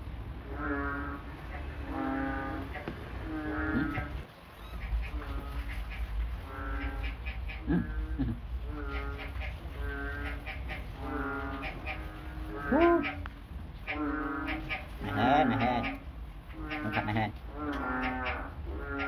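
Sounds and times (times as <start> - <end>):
animal calling: 0.5 - 19.0.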